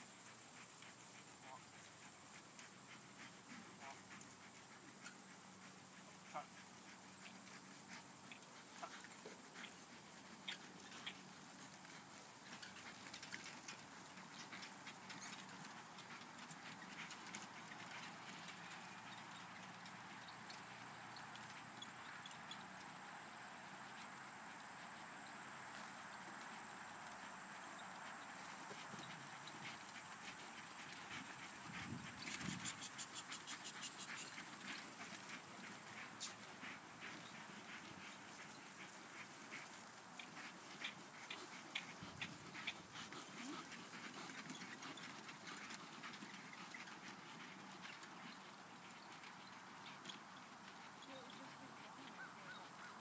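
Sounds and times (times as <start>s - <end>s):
distant horse hoofbeats: 0.0s - 53.0s.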